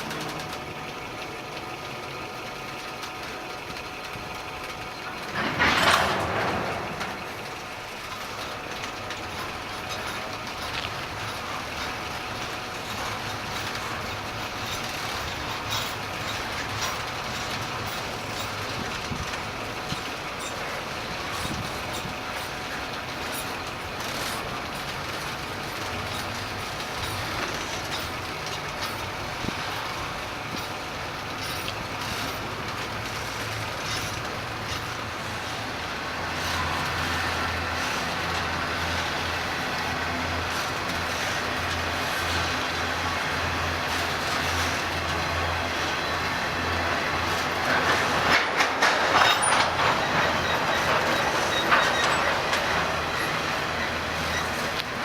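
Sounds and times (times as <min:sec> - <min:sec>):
diesel locomotive engine drone: 0:00.0 - 0:55.0
train cars rumbling: 0:00.0 - 0:55.0.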